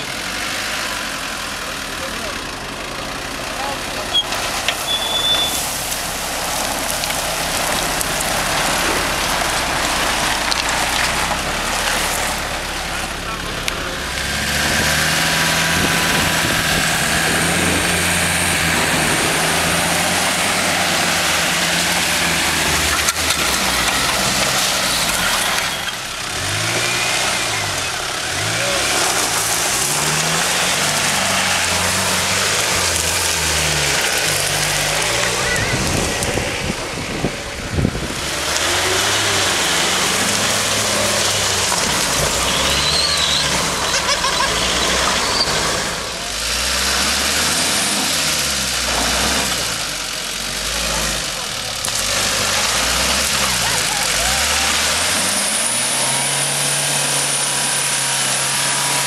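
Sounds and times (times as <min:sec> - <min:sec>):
suv engines revving under load: 0:00.0 - 0:59.0.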